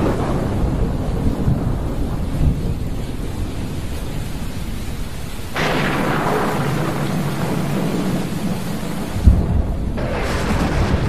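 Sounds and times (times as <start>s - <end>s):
crackling thunderclap: 0.0s - 11.0s
rain hiss: 0.0s - 11.0s
rolling thunder: 0.0s - 11.0s.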